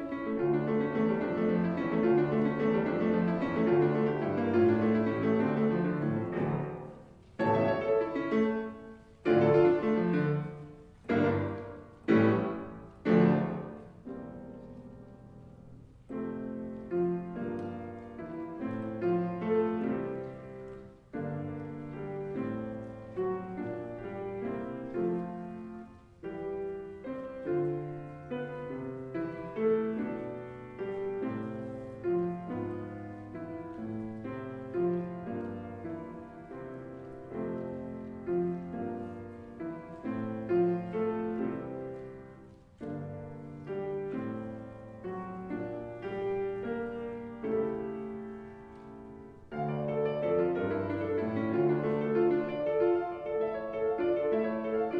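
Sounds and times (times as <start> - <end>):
grand piano playing: 0.0 - 54.9.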